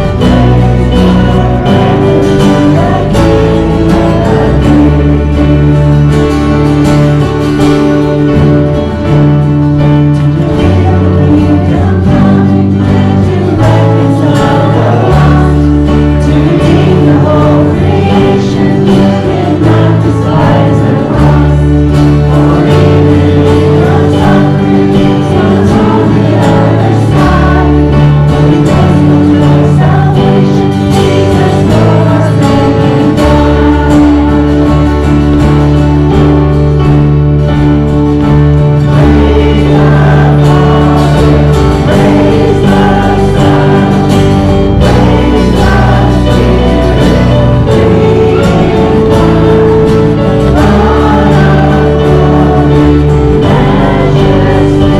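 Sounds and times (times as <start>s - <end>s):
congregation singing with band: 0.0s - 54.9s
held bass chords: 0.0s - 54.9s.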